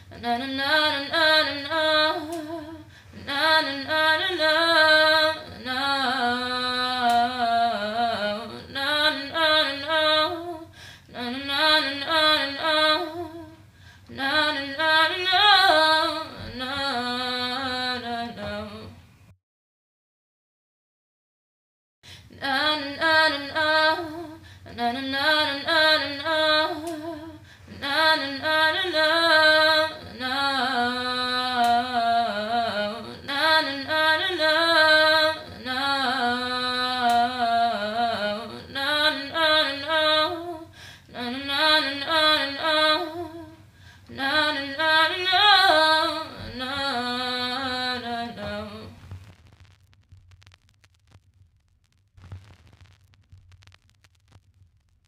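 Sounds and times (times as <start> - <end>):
woman singing unaccompanied: 0.0 - 19.0, 22.3 - 49.0.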